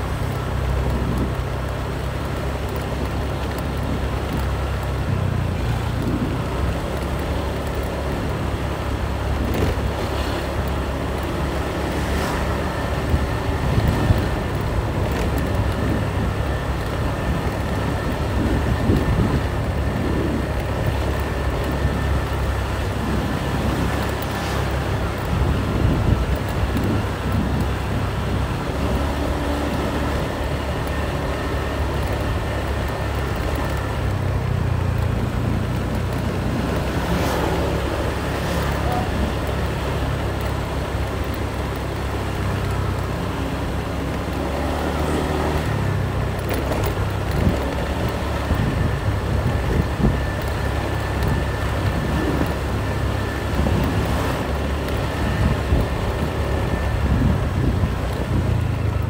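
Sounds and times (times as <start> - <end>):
motor scooter engine running: 0.0 - 59.0
road and wind noise: 0.0 - 59.0.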